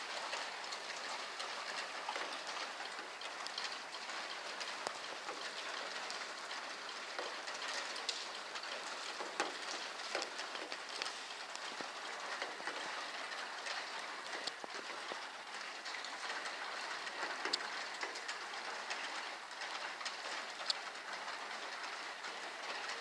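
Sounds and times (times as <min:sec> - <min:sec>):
heavy rain falling: 0:00.0 - 0:23.0
raindrops ticking on hard surfaces: 0:00.0 - 0:23.0.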